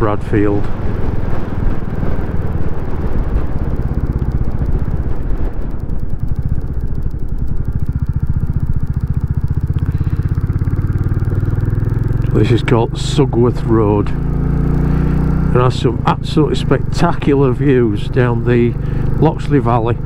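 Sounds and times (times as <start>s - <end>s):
motorcycle engine at low revs: 0.0s - 20.0s
wind rush on microphone: 0.0s - 20.0s.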